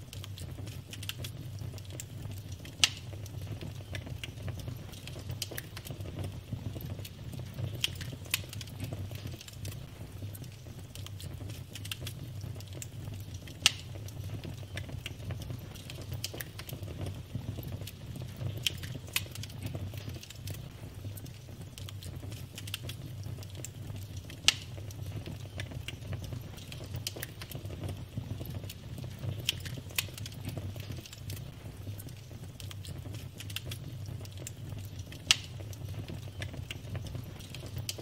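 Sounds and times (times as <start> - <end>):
fire popping loudly: 0.0 - 38.0
wood fire crackling: 0.0 - 38.0.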